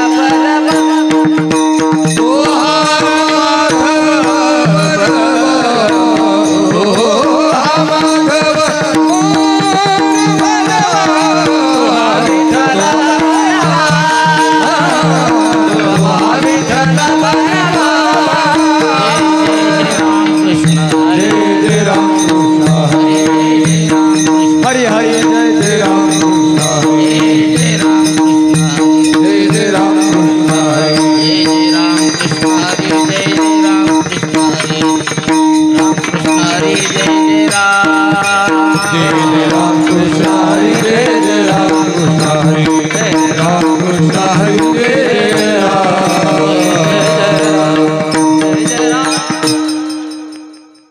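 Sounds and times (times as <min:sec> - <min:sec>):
hand drum playing: 0:00.0 - 0:50.8
hand cymbals: 0:00.0 - 0:50.9.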